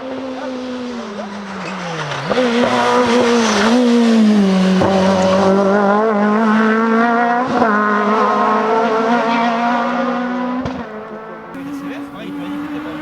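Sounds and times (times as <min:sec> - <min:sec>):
rally car engine revving high: 0:00.0 - 0:13.0.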